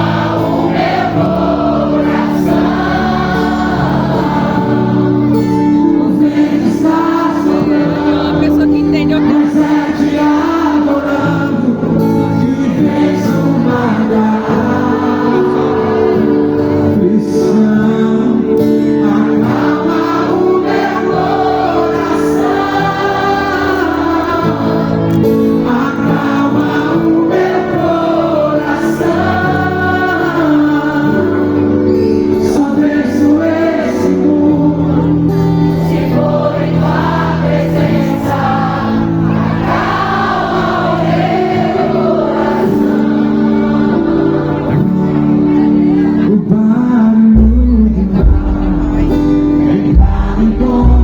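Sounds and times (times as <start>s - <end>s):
gospel song with vocals: 0.0s - 51.0s
sustained instrumental chords: 0.0s - 51.0s.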